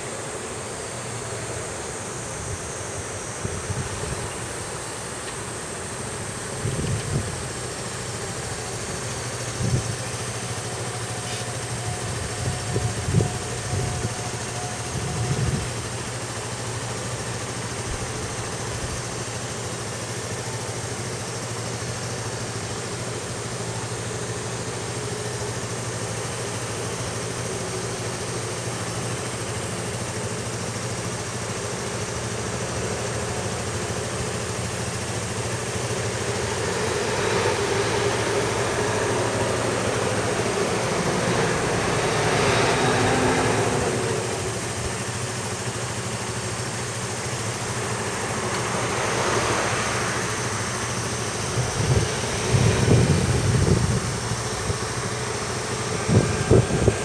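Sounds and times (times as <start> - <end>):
road traffic: 0.0 - 57.0
vehicle engine idling: 0.0 - 57.0.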